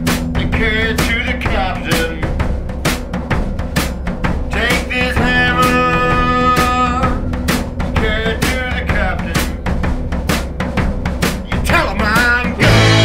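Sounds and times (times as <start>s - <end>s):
steady drum beat: 0.0s - 13.0s.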